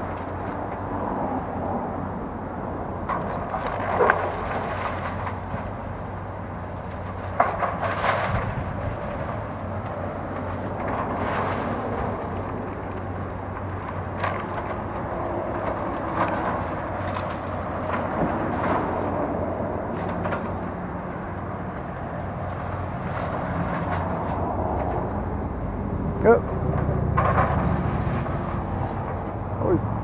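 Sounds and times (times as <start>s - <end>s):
excavator diesel engine running: 0.0s - 30.0s
debris crunching and crashing: 3.0s - 25.7s, 26.3s - 29.8s.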